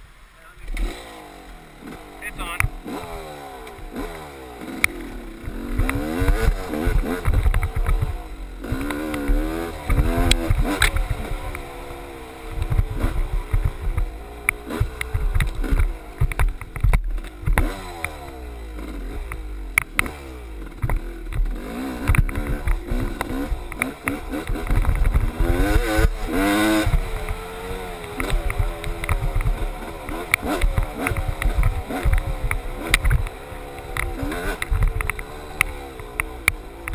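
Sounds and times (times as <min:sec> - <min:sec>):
dirt bike engine revving: 0:00.5 - 0:36.9.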